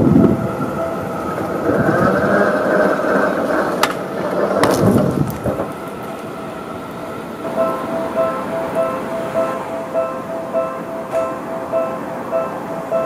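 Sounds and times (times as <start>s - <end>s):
electric train motor whine: 0.0s - 13.0s
wheels clacking over rail joints: 0.0s - 13.0s.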